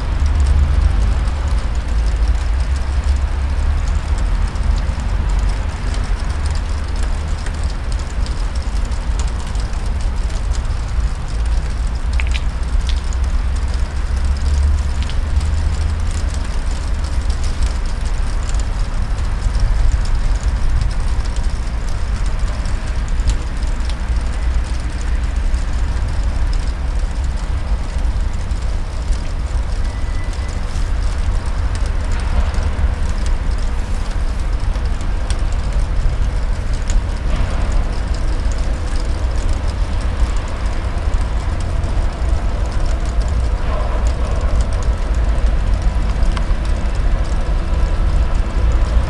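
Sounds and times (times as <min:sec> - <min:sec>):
diesel locomotive rumbling: 0:00.0 - 0:49.0.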